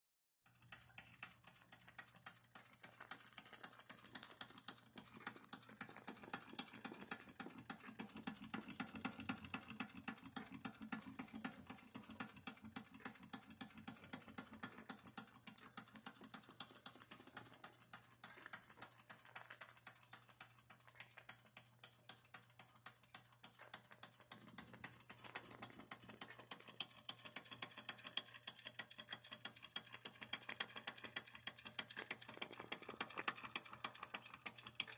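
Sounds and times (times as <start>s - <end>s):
steam engine ticking: 0.4s - 34.9s
steady low hum: 0.6s - 34.9s.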